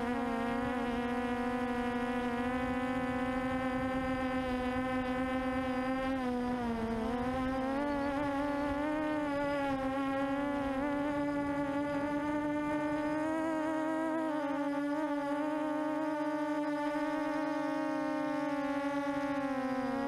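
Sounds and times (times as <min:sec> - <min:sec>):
quadcopter propellers buzzing: 0:00.0 - 0:20.0
wind noise on microphone: 0:00.0 - 0:20.0.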